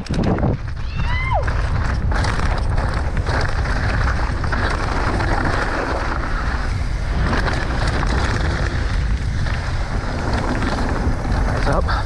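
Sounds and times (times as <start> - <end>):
bike clicks and rattles: 0.0 - 12.0
tyres rolling over dirt: 0.0 - 12.0
wind on microphone: 0.0 - 12.0.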